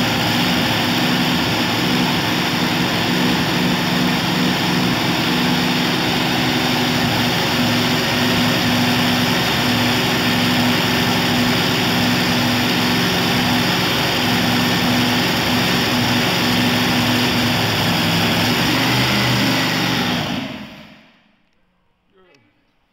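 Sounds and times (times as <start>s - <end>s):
loud dragster engine idling: 0.0s - 21.1s.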